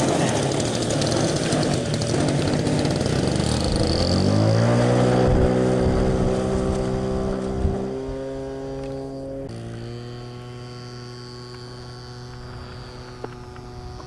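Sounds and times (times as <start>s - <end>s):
model airplane motor and propeller: 0.0s - 14.0s.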